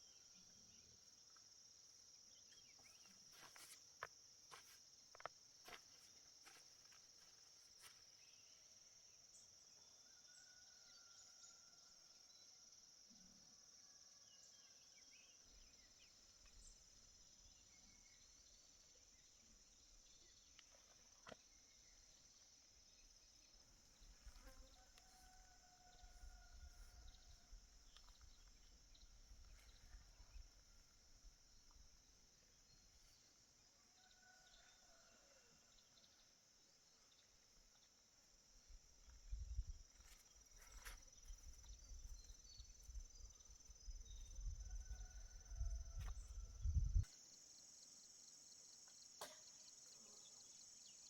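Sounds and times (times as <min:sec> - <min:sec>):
crickets chirring: 0:00.0 - 0:13.0, 0:13.8 - 0:35.2, 0:35.9 - 0:51.0.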